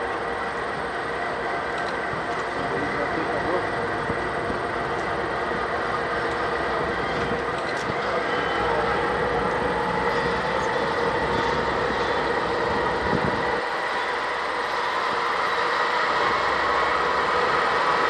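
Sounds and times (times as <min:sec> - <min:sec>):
diesel locomotive engine rumble: 0:00.0 - 0:18.0
steady whine: 0:00.0 - 0:18.0.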